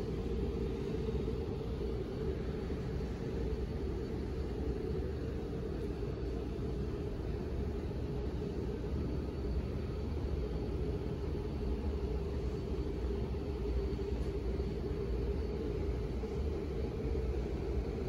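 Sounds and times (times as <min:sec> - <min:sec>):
low rumbling background noise: 0:00.0 - 0:18.0.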